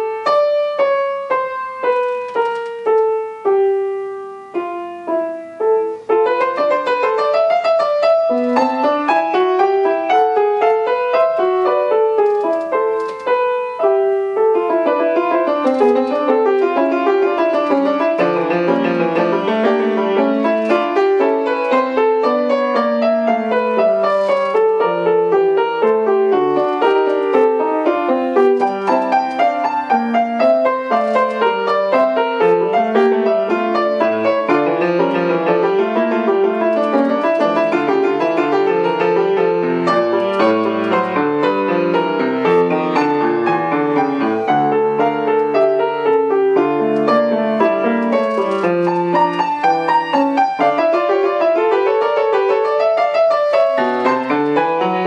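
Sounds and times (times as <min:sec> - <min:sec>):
solo classical piano: 0:00.0 - 0:55.0.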